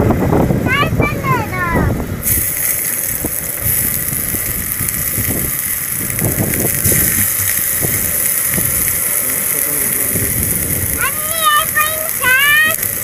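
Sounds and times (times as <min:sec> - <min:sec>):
wind gusting on microphone: 0:00.0 - 0:13.0
oil sizzling on a hot griddle: 0:00.7 - 0:13.0.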